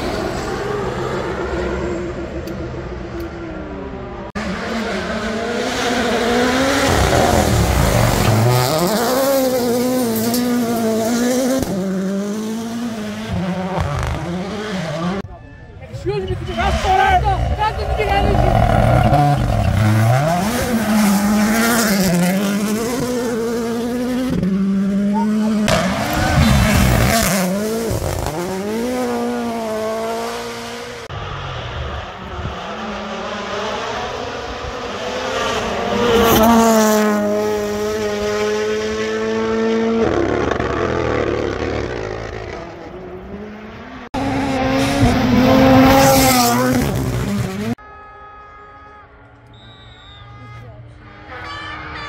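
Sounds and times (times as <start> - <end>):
rally car engine passing: 0.0 - 15.2, 16.2 - 47.8.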